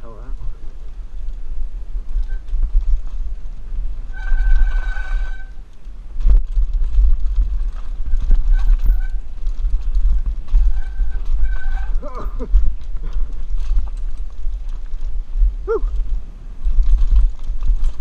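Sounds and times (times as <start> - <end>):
bike rattling over bumps: 0.0 - 18.0
wind rumbling on microphone: 0.0 - 18.0.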